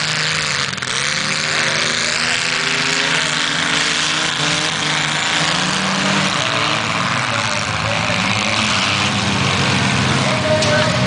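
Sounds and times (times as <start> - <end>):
racing car engines revving: 0.0 - 11.0.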